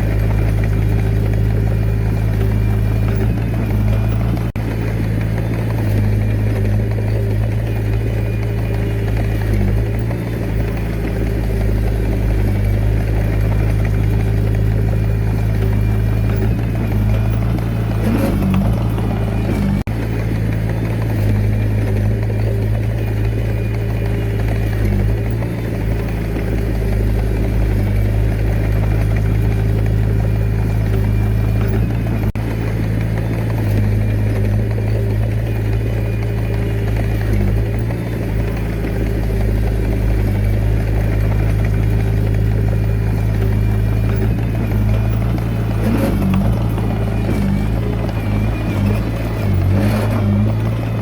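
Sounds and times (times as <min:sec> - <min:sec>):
bulldozer diesel engine running: 0:00.0 - 0:51.0.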